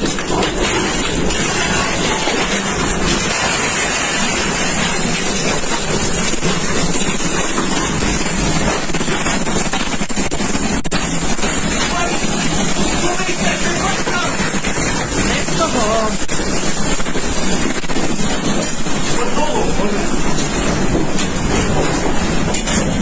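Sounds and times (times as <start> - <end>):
violent wind with rain: 0.0 - 23.0.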